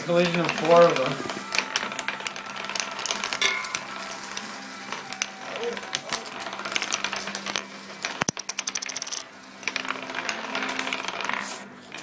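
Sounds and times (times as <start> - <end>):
coins clattering on wooden table: 0.0 - 12.0.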